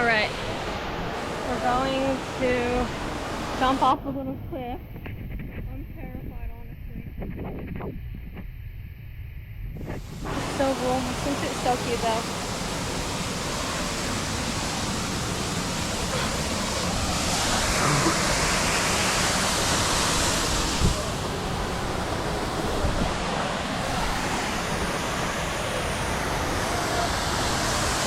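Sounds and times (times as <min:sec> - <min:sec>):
water rushing: 0:00.0 - 0:05.0, 0:09.8 - 0:28.0.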